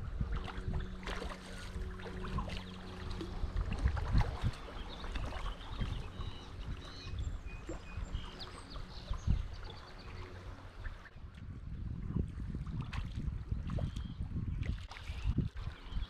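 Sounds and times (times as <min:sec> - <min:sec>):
creek water splashing: 0:00.0 - 0:16.0.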